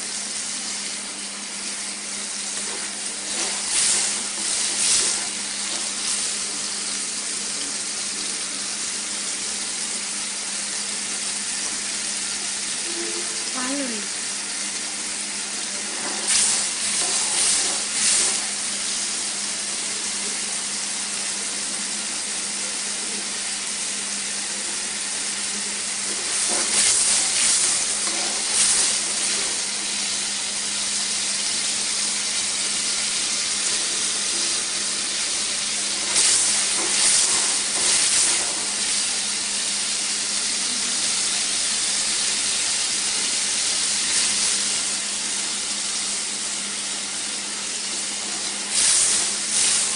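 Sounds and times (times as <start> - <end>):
onions sizzling in oil: 0.0 - 49.9.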